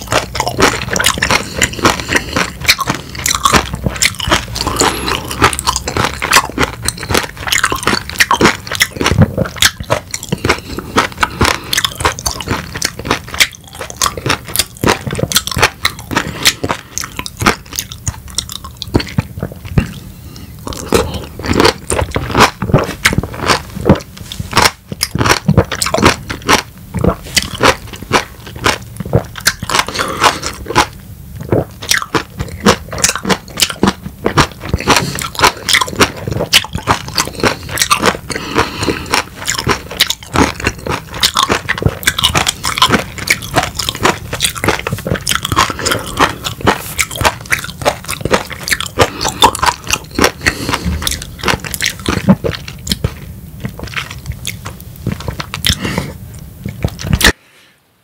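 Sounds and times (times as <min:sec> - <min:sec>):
man chewing lemon: 0:00.0 - 0:57.4.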